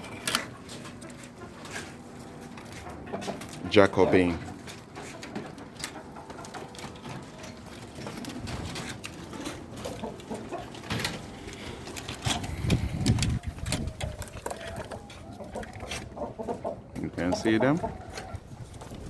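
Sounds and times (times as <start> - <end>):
clicks and rustles from birds: 0.0 - 19.0
pigeons cooing: 0.0 - 19.0.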